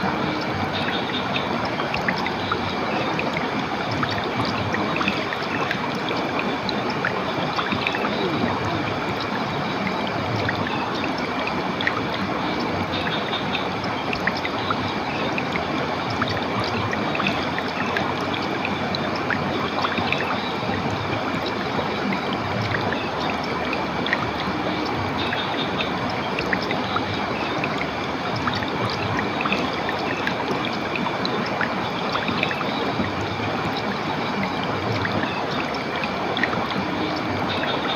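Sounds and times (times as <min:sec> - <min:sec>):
stream water rushing and trickling: 0:00.0 - 0:37.9.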